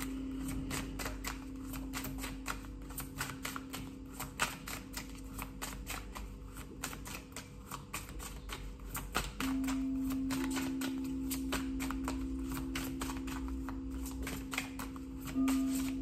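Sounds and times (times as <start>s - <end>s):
cards being shuffled: 0.0s - 16.0s.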